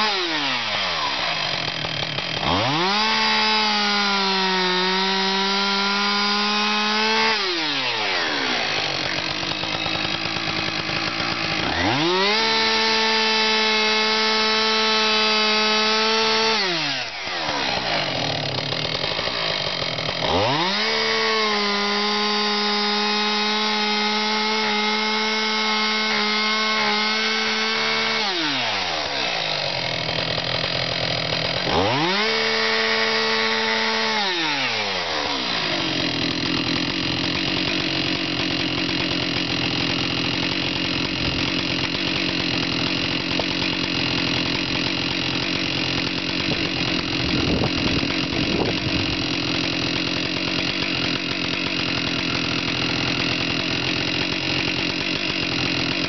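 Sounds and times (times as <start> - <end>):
chainsaw cutting wood: 0.0 - 56.0
chainsaw idling: 0.0 - 56.0.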